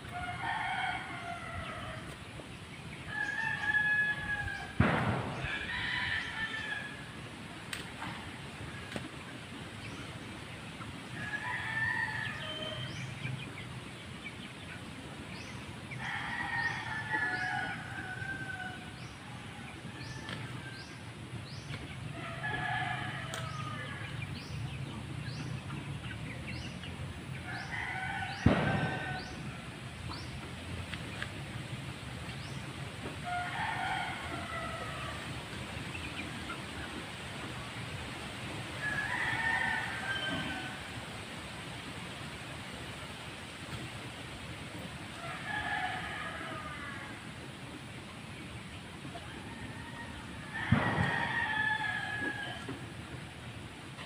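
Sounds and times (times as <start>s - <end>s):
roosters crowing: 0.0s - 8.9s, 11.0s - 13.7s, 15.3s - 30.5s, 32.3s - 41.6s, 44.6s - 47.6s, 48.3s - 53.8s.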